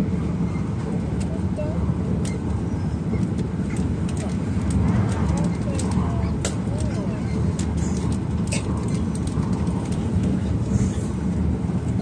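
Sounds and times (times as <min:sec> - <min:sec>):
train cabin low rumble: 0:00.0 - 0:12.0.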